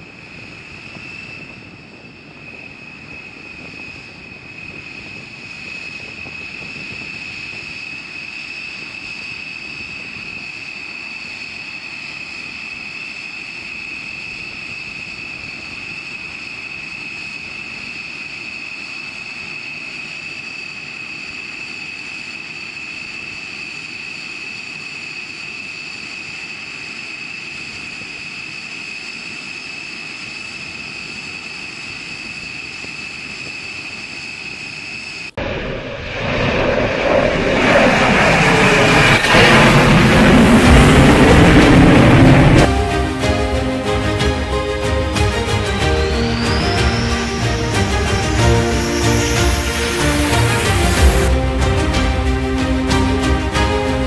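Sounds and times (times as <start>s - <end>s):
jet engines whining at low power: 0.0s - 54.0s.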